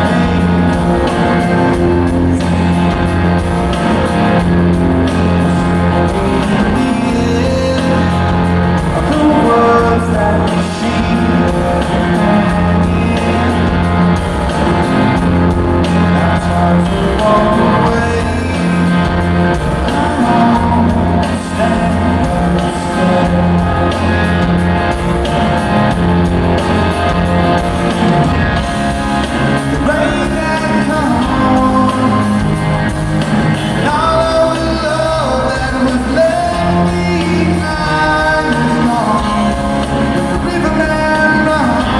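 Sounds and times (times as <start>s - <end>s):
man singing: 0.0s - 27.1s, 29.3s - 32.9s, 33.6s - 41.9s
live rock band playing: 0.0s - 41.9s
steady bass line: 0.0s - 41.9s.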